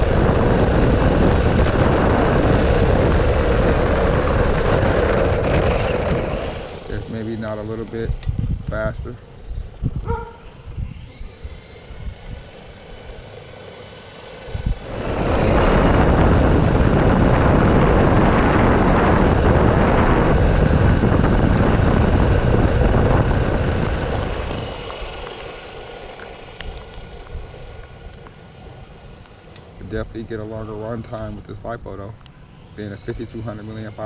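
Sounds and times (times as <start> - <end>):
rc car motor and tyres rushing: 0.0 - 34.0.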